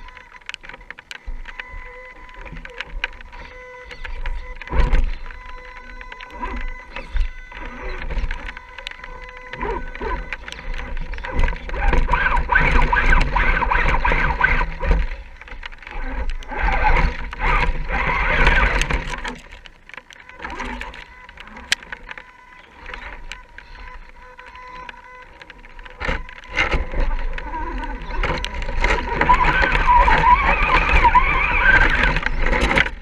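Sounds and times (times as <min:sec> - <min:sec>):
electric motor and gears whining: 0:00.0 - 0:33.0.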